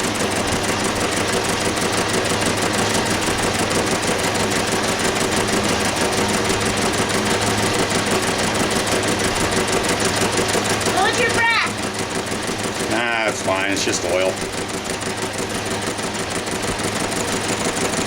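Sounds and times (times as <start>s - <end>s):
lathe running: 0.0s - 18.0s.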